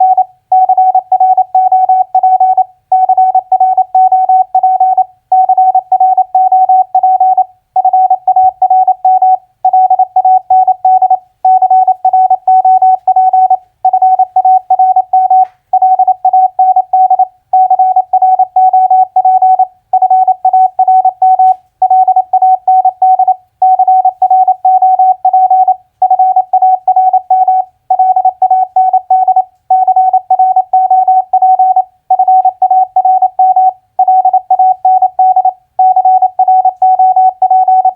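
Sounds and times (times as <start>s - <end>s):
morse code beeping: 0.0s - 37.9s.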